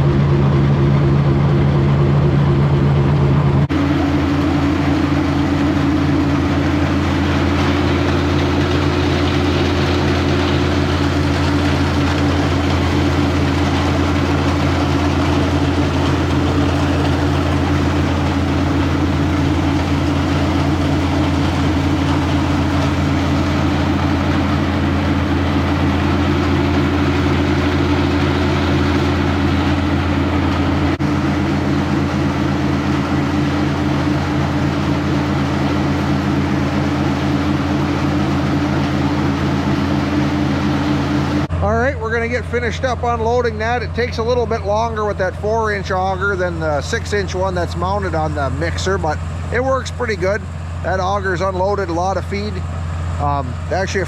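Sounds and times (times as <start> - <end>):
auger unloading feed: 0.0 - 54.0
tractor diesel engine running: 0.0 - 54.0.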